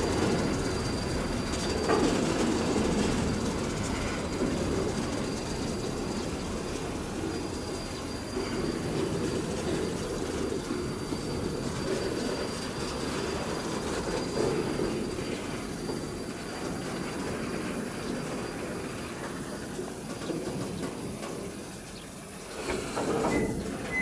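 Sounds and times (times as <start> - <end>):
wagons rolling over rails: 0.0 - 24.0
wheel squeal: 0.0 - 24.0.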